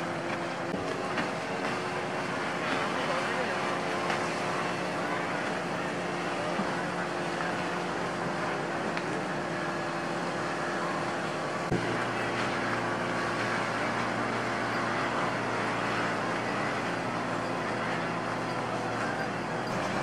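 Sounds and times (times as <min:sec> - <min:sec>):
speedboat motors running: 0:00.0 - 0:20.0.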